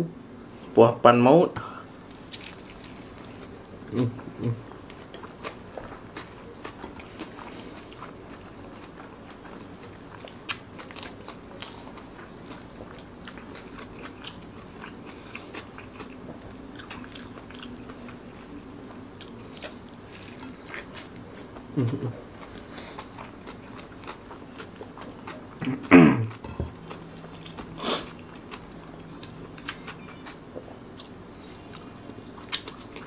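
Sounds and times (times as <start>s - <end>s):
person chewing: 2.2s - 33.0s.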